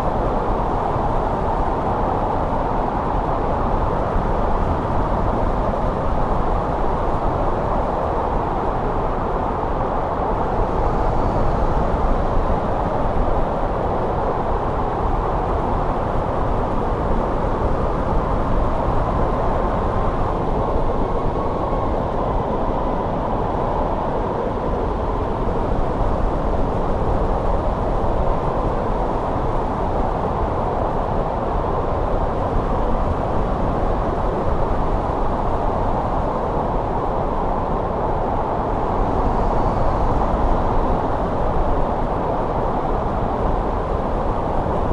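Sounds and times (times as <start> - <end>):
snowstorm wind rushing: 0.0 - 44.9.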